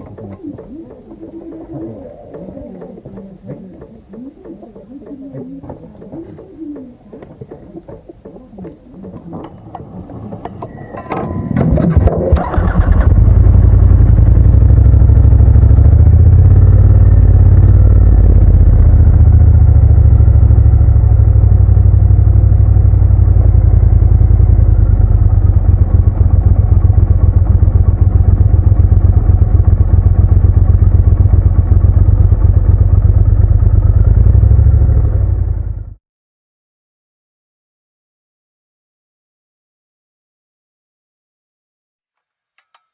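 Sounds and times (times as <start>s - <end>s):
motorcycle engine rumbling: 0.0s - 5.0s, 5.6s - 36.0s.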